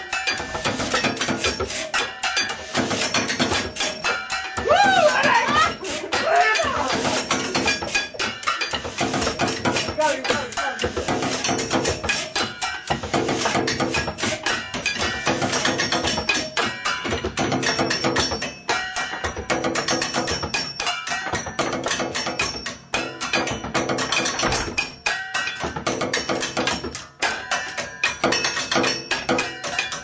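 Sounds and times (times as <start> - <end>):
drumming on kitchen objects: 0.0 - 30.0.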